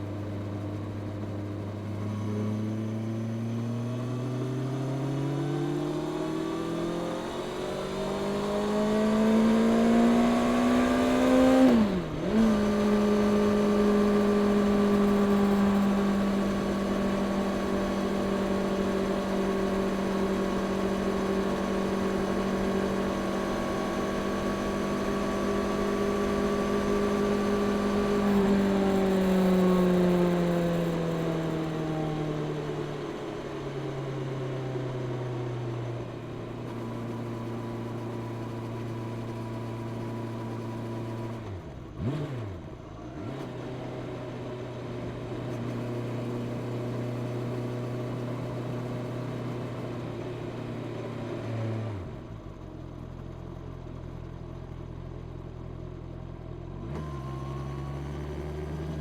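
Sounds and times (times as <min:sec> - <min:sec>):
motorcycle engine running: 0:00.0 - 0:56.8.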